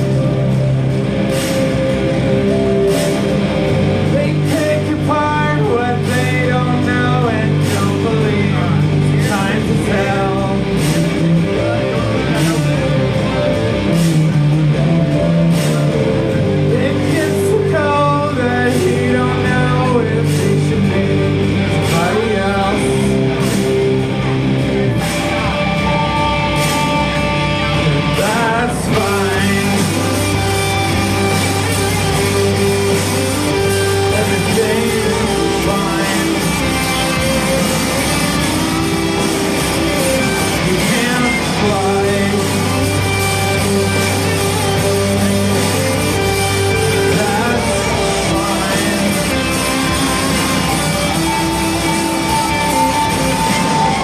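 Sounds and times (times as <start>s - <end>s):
bass notes: 0.0s - 54.0s
drum beat: 0.0s - 54.0s
electric guitar: 0.0s - 54.0s
person singing: 1.5s - 54.0s.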